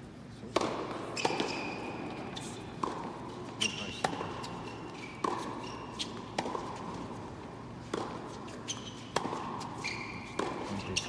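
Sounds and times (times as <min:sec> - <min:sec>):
tennis ball hits and bounces: 0:00.5 - 0:11.0.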